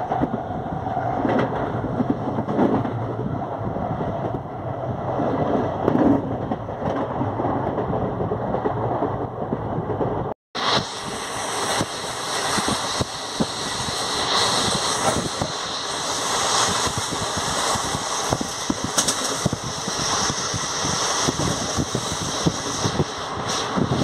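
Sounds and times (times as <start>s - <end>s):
train rumble and air rush: 0.0s - 24.0s.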